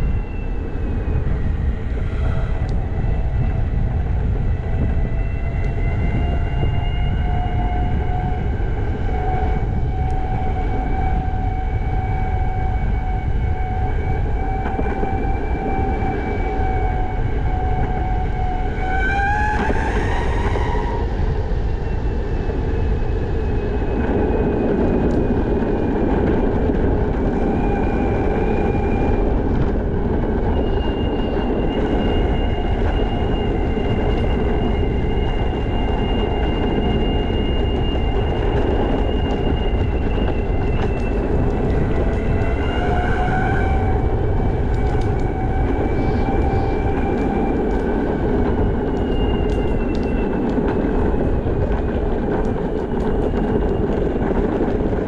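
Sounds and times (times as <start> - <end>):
skateboard wheels rumbling: 0.0 - 55.0.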